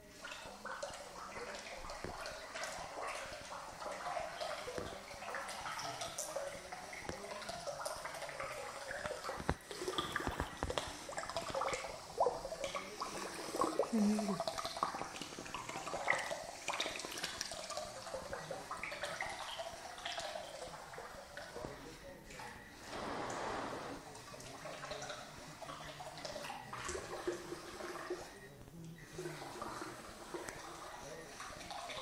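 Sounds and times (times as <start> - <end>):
water dripping: 0.0 - 23.3, 24.1 - 32.0
pool water lapping and splashing: 0.0 - 32.0.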